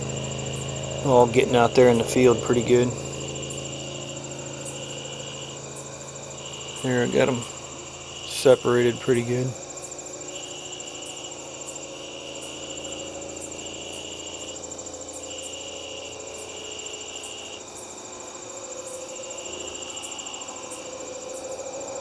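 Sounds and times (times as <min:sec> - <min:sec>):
high insect trill: 0:00.0 - 0:22.0
lower intermittent insect trill: 0:00.0 - 0:22.0.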